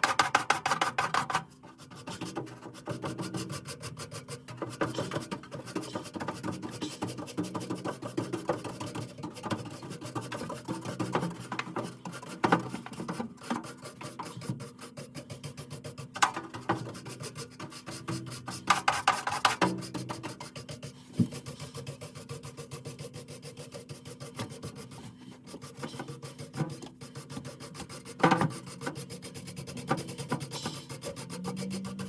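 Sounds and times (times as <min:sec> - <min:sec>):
rapid scraping strokes: 0:00.0 - 0:32.0.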